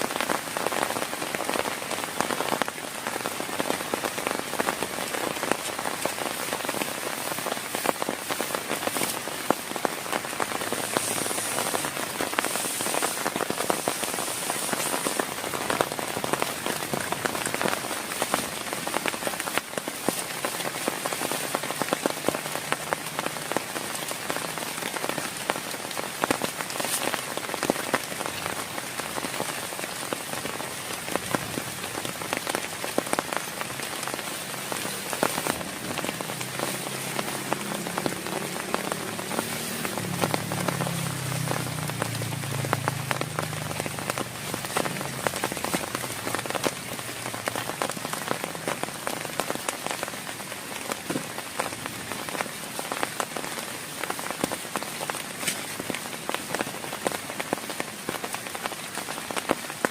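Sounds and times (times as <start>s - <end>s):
heavy rain on a surface: 0.0s - 59.9s.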